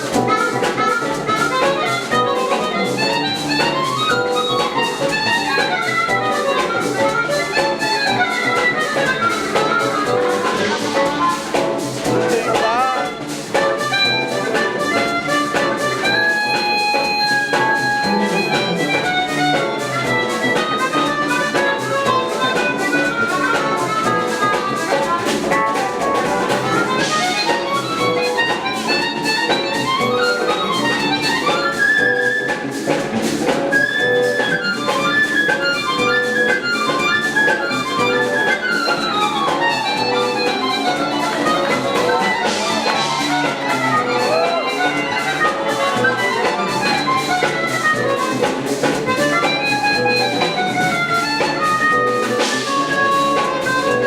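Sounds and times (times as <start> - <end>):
jazz fusion band playing: 0.0 - 54.0.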